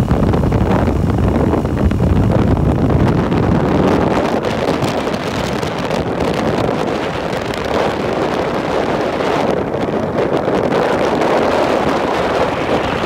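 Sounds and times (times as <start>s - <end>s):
vehicle and road noise: 0.0s - 13.0s
wind buffeting microphone: 0.0s - 13.0s.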